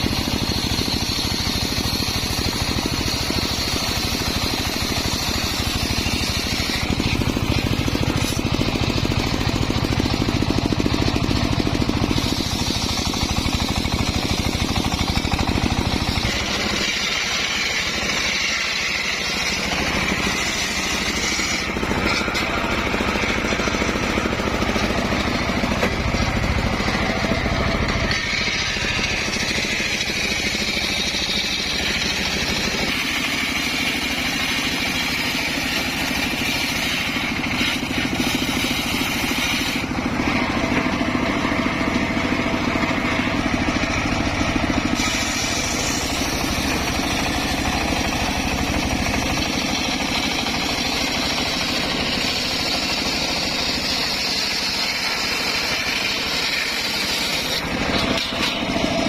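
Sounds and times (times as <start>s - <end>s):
circular sawmill running: 0.0s - 59.0s.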